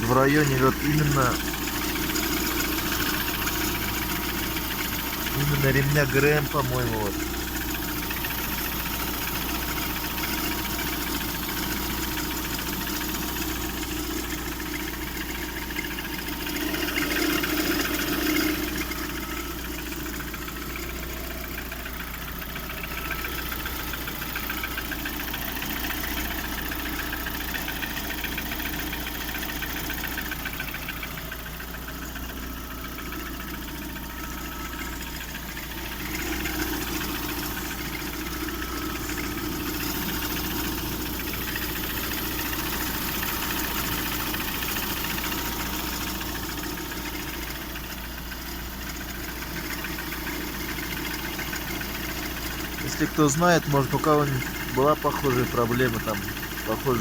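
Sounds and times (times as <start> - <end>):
car engine idling with knocking: 0.0 - 57.0.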